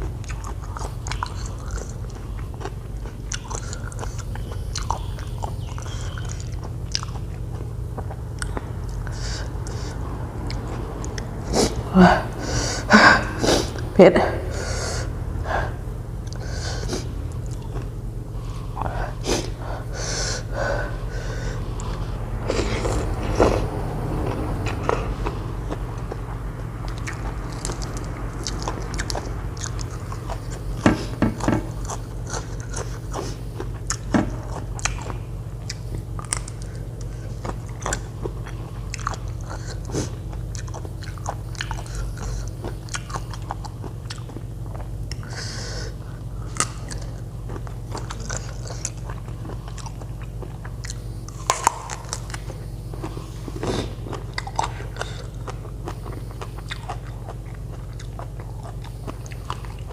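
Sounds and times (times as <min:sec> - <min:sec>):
person chewing food: 0:00.0 - 0:59.9
steady low hum: 0:00.0 - 0:59.9.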